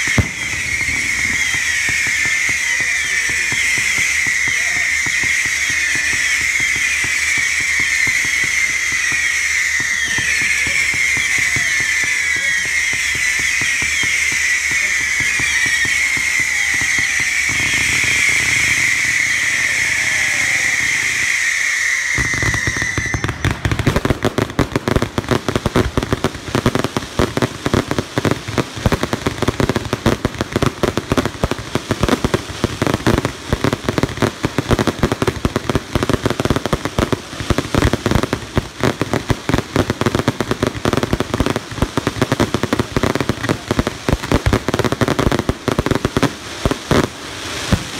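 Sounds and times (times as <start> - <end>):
firework crackling: 0.0 - 47.9
firework whistling: 0.0 - 47.9.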